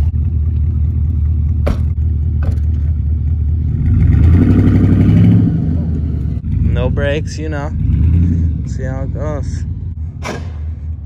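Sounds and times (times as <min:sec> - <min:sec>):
pickup truck engine running: 0:00.0 - 0:11.0.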